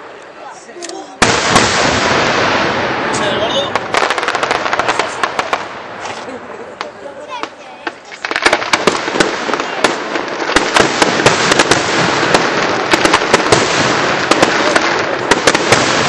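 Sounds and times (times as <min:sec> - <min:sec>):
fireworks crackling: 0:00.0 - 0:16.0
fireworks bangs: 0:01.2 - 0:16.0.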